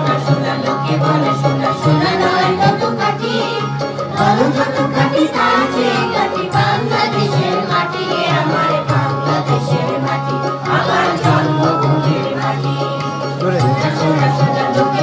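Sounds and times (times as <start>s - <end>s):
children and adults singing: 0.0s - 15.0s
instrumental accompaniment: 0.0s - 15.0s.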